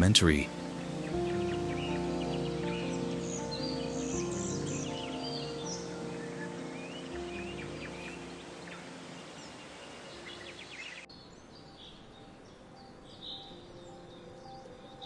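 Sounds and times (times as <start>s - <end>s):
birds chirping: 0.0s - 15.0s
soft outdoor ambience: 0.0s - 15.0s.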